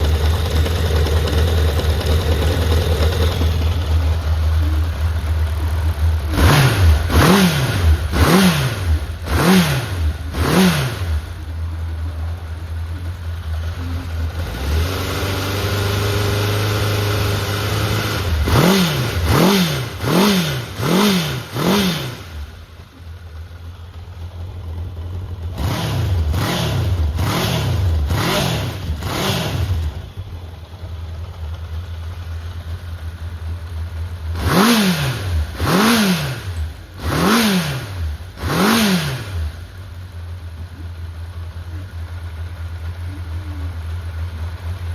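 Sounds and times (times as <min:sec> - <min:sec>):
motorcycle engine idling: 0:00.0 - 0:44.9
motorcycle engine revving: 0:00.0 - 0:44.9.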